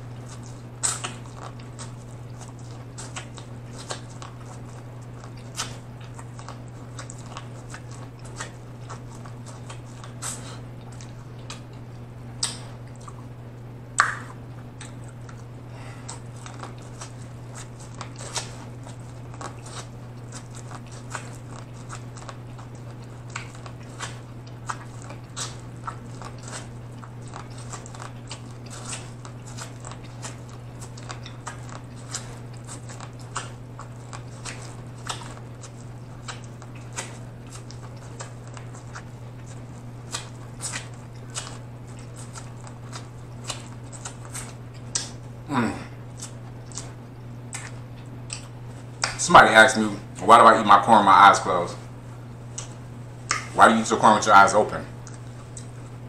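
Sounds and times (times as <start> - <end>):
chewing corn crunches: 0.0 - 51.8, 52.4 - 56.0.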